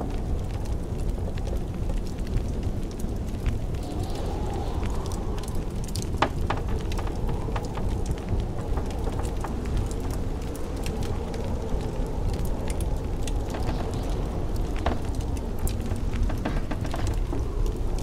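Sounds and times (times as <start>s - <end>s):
blizzard wind rushing: 0.0s - 18.0s
wood fire crackling: 0.0s - 18.0s.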